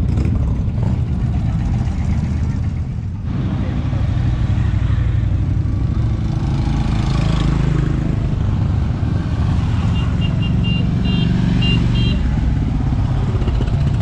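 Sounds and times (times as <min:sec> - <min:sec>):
motorcycle engines passing: 0:00.0 - 0:14.0.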